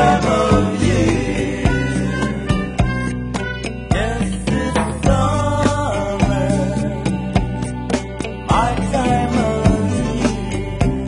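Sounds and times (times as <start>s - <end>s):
song with instruments and drums: 0.0s - 11.0s.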